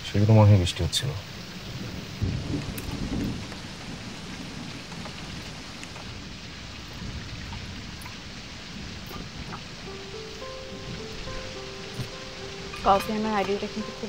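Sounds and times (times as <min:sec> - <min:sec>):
rain on a car: 0:00.0 - 0:14.0.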